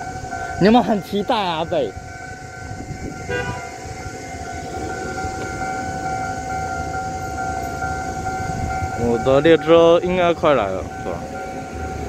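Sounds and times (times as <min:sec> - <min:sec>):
level crossing warning alarm: 0:00.0 - 0:12.0.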